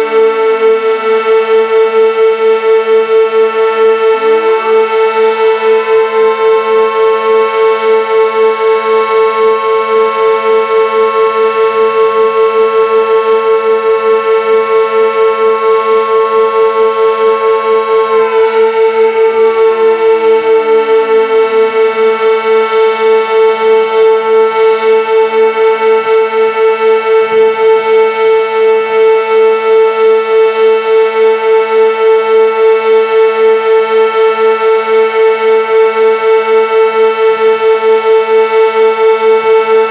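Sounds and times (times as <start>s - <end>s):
warning siren pulsing tone: 0.0s - 39.9s.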